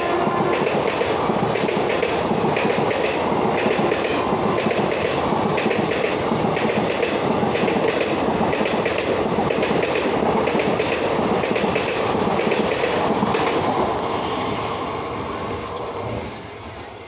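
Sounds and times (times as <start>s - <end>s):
train wheels clattering: 0.0s - 13.8s.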